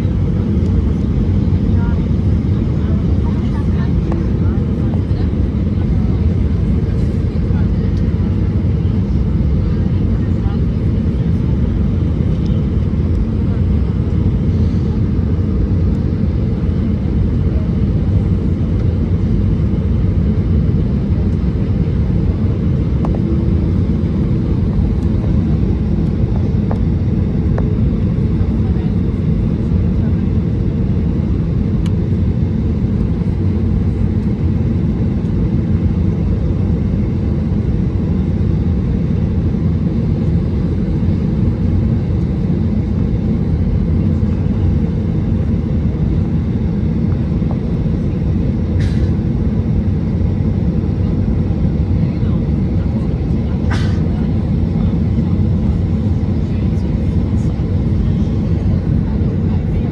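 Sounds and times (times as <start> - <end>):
airliner cabin engine noise: 0.0 - 59.9.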